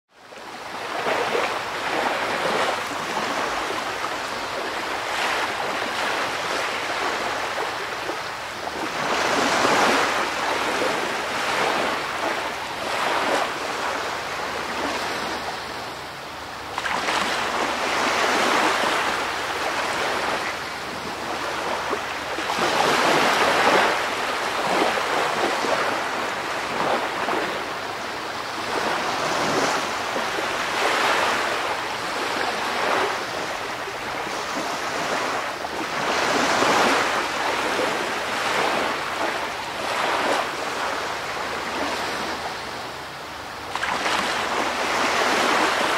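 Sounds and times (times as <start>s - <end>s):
waves washing on shore: 0.2s - 45.9s.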